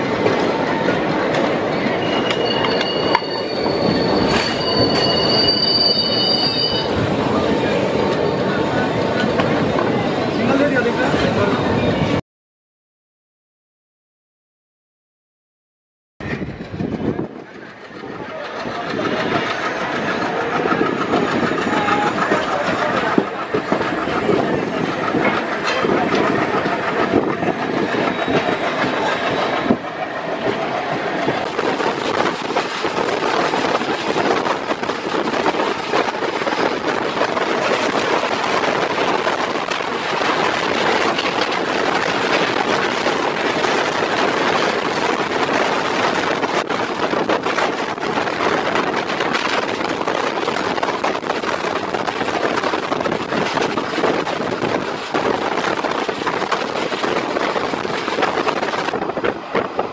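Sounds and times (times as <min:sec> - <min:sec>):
train running on track: 0:00.0 - 0:12.2, 0:16.2 - 0:59.9.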